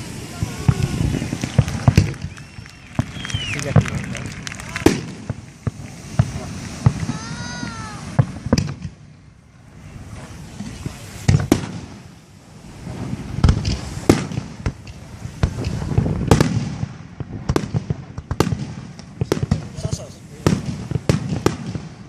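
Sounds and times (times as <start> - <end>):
distant explosions rumbling: 0.0 - 22.0
firework shells bursting: 0.0 - 22.0.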